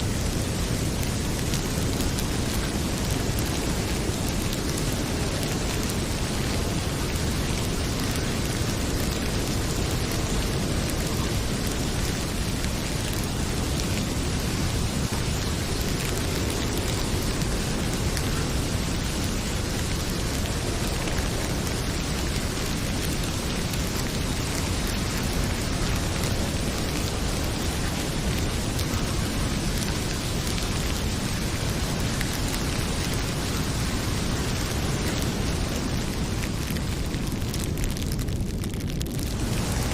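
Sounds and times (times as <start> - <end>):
heavy rain pouring: 0.0 - 39.9
wood fire crackling: 0.0 - 39.9.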